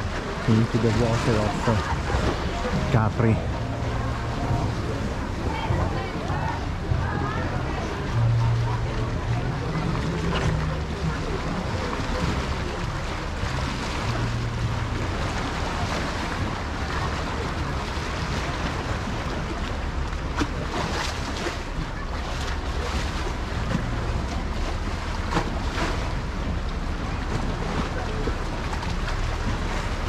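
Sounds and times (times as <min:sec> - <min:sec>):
low rumble: 0:00.0 - 0:30.0
waves washing: 0:00.0 - 0:30.0.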